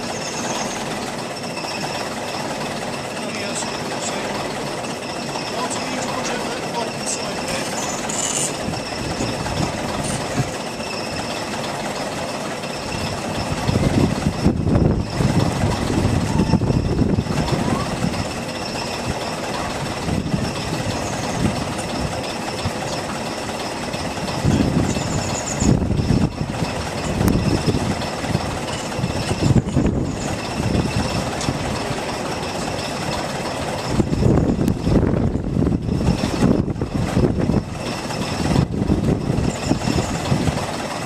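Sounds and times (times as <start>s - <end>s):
heavy engine idling: 0.0s - 41.0s.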